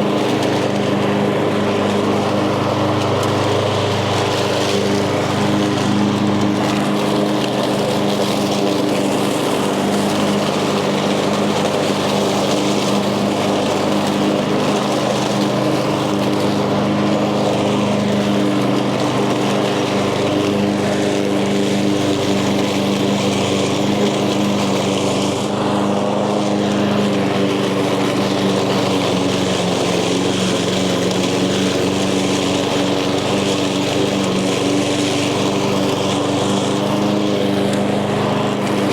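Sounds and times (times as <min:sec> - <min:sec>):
lawn mower engine under load: 0:00.0 - 0:38.9.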